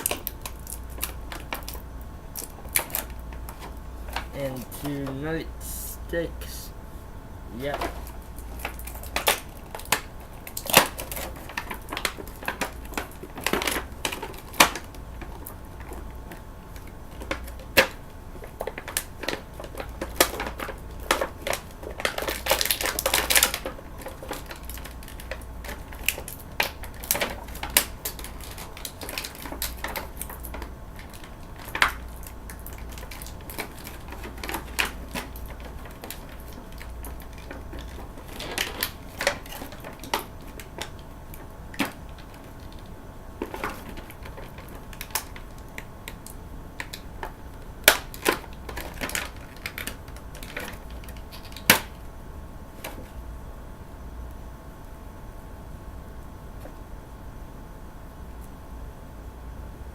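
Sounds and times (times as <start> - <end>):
toy packaging crinkling and clicking: 0.0 - 6.7, 7.5 - 52.1, 52.7 - 53.2.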